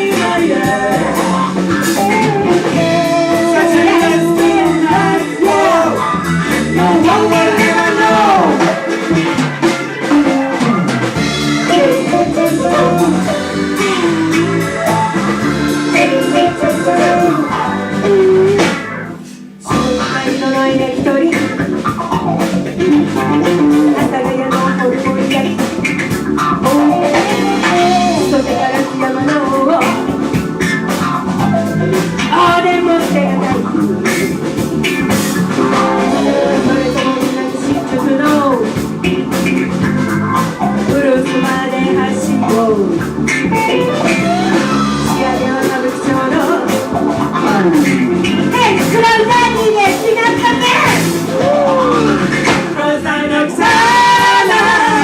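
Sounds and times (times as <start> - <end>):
band playing funk: 0.0 - 55.0.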